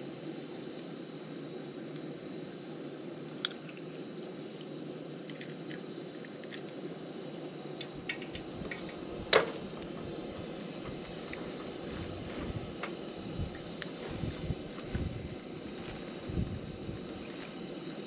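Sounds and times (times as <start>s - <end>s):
gas burner roaring: 0.0s - 18.0s.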